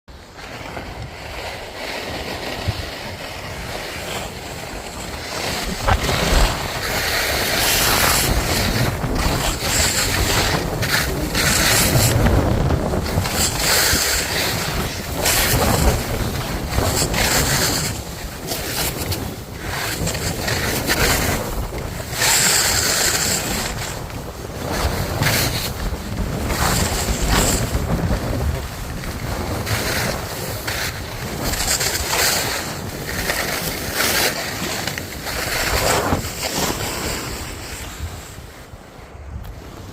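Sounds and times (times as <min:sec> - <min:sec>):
skis scraping across snow: 0:00.1 - 0:39.9
wind rushing over microphone: 0:00.1 - 0:39.9.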